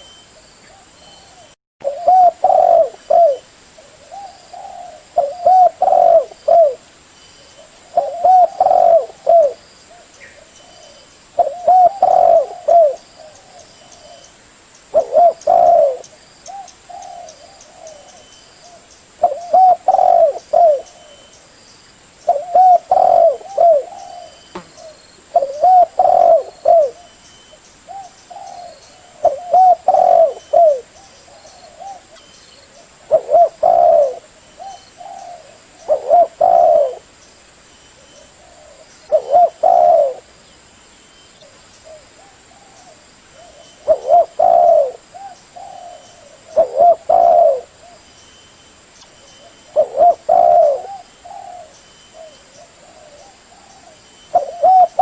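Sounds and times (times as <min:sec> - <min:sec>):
dove cooing: 0:00.7 - 0:06.8, 0:07.6 - 0:14.3, 0:14.9 - 0:21.3, 0:22.3 - 0:27.2, 0:27.9 - 0:37.1, 0:38.0 - 0:40.3, 0:41.4 - 0:48.0, 0:49.4 - 0:55.0.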